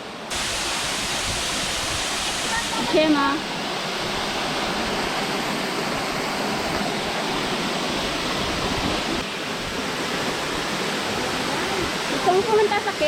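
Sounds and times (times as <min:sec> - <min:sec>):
waterfall rushing: 0:00.3 - 0:13.0.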